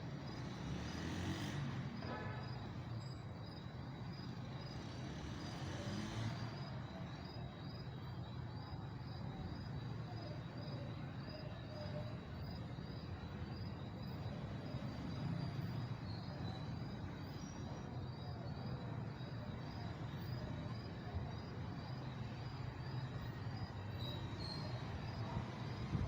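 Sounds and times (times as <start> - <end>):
crickets chirping: 2.0 - 26.0.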